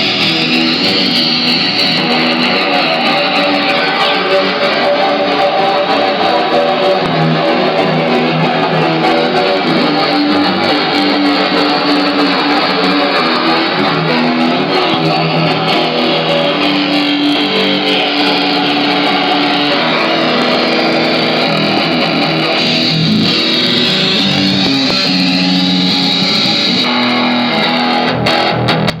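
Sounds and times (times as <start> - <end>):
electric guitar through effects pedal: 0.0 - 29.0.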